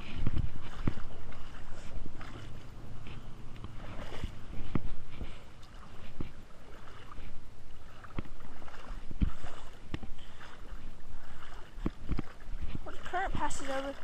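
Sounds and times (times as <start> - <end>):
creek water sloshing: 0.0 - 14.0.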